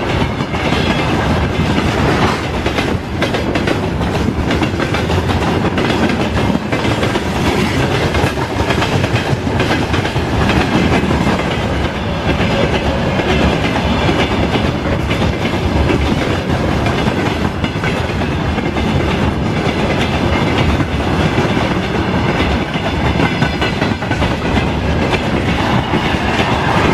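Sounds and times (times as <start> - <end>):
train wheels clattering over rail joints: 0.0 - 26.9.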